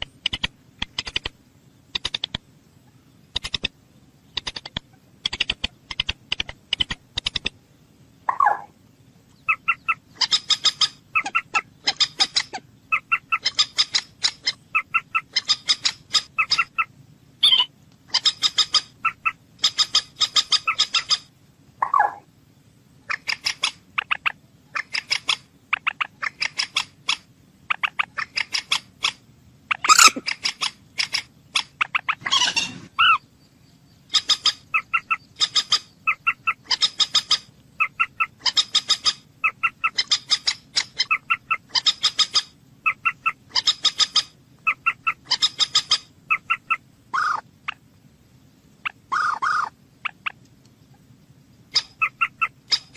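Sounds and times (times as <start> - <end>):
moorhen calling: 8.2 - 22.3, 23.0 - 47.9, 48.8 - 52.9.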